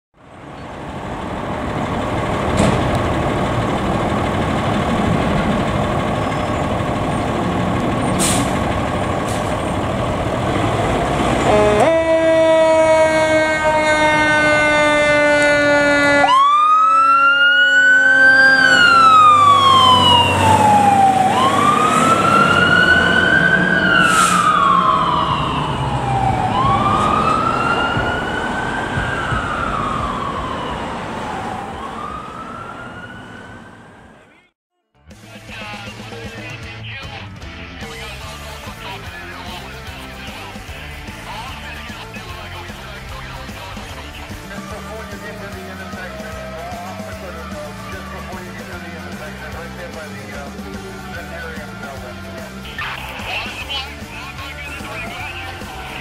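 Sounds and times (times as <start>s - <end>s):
diesel engine running: 0.2s - 34.5s, 35.1s - 56.0s
fire engine siren wailing: 0.2s - 34.5s, 38.3s - 56.0s.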